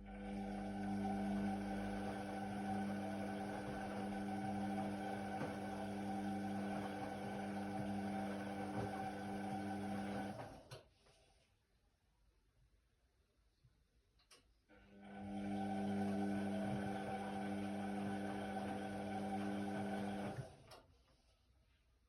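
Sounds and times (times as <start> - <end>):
washer-dryer electrical hum: 0.0 - 10.9, 14.2 - 21.3.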